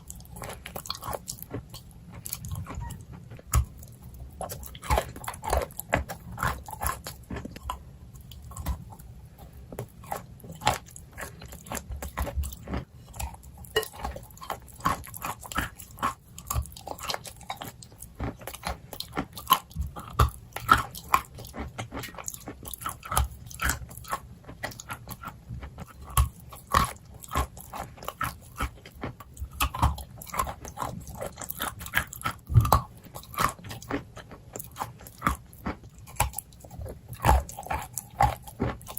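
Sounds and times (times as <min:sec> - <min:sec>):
person chewing crunchy clay: 0:00.0 - 0:38.9.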